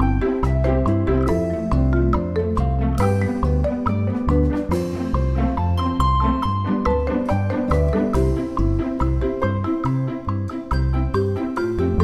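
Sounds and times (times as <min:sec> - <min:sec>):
bass line: 0:00.0 - 0:12.0.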